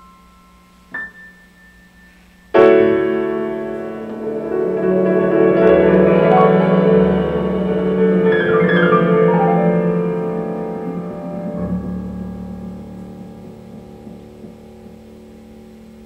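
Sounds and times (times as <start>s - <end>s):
piano music over loudspeakers: 0.0s - 16.0s.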